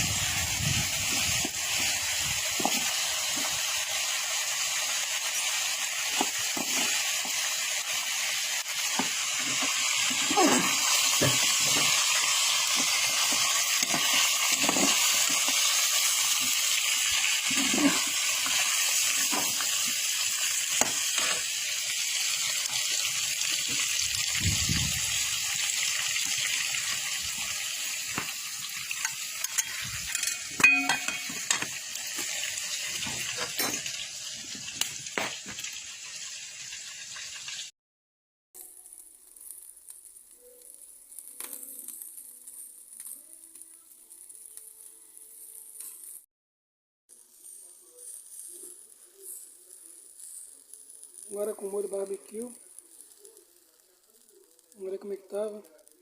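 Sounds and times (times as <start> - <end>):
ribs sizzling on a grill: 0.0 - 37.7, 38.6 - 46.3, 47.1 - 56.0.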